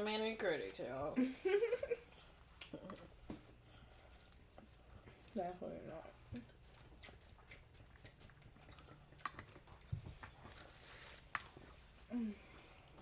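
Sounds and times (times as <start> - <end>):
chewing and mouth sounds: 2.2 - 13.0.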